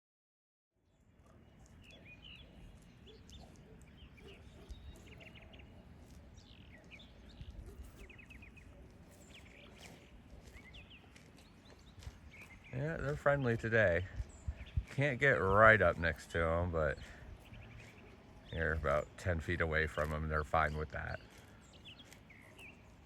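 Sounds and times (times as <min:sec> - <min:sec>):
small birds chirping: 0:00.8 - 0:23.0.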